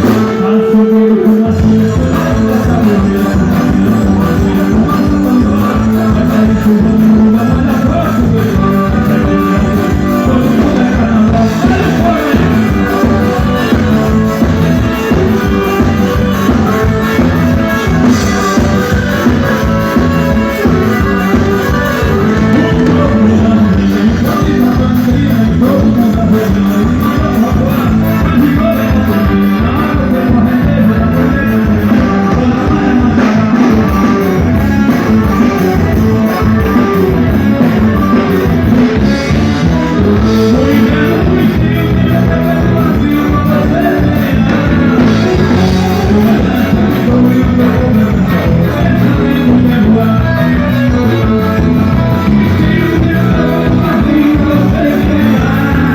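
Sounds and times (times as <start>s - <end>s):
band playing with drums and guitar: 0.0s - 55.9s.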